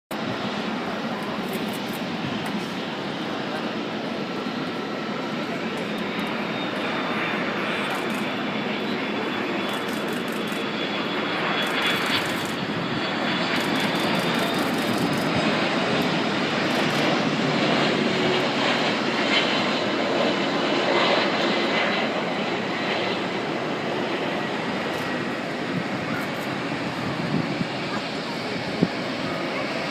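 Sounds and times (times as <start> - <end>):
jet engine roar: 0.1 - 29.9.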